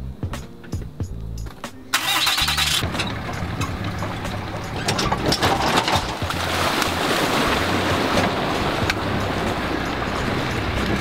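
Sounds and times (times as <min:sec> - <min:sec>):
pickup engine running: 0:00.0 - 0:11.0.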